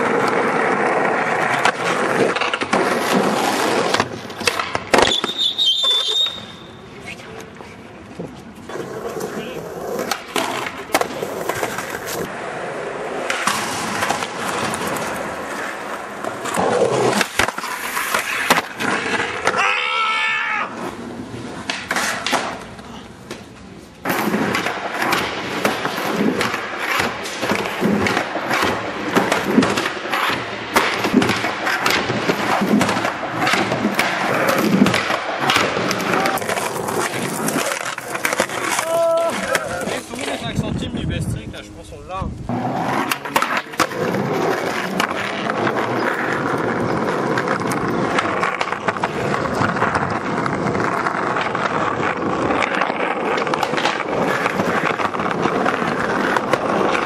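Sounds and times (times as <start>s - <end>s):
skateboard pops and landings: 0.0s - 6.5s, 13.2s - 20.0s, 21.5s - 40.3s, 42.5s - 57.0s
skateboard wheels rolling on concrete: 0.0s - 57.0s.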